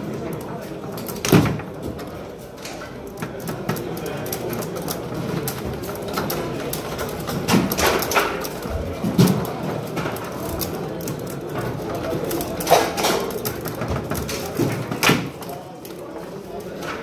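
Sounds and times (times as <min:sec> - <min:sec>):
foosball knocks and clacks: 0:00.8 - 0:15.5.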